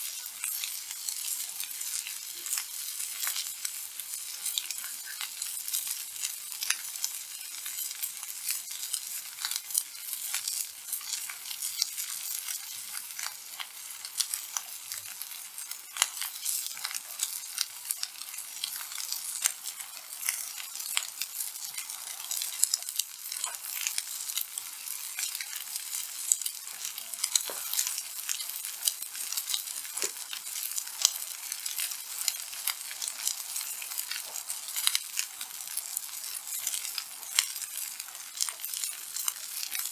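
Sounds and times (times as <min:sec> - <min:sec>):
steak sizzling on a griddle: 0:00.0 - 0:39.9.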